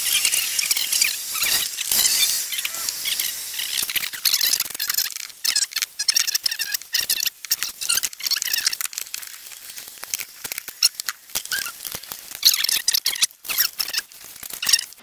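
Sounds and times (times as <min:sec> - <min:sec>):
rubber and plastic parts squeaking: 0:00.1 - 0:15.0.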